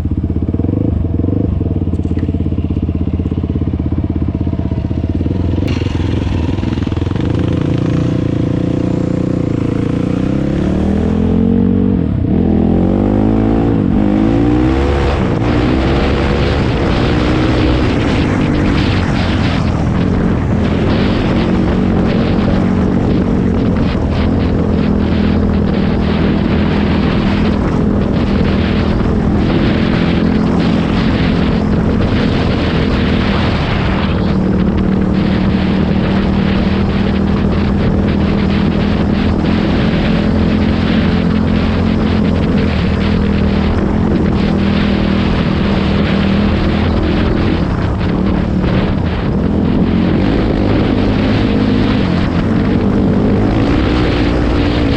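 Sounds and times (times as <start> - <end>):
atv engine accelerating: 0.0 - 54.9.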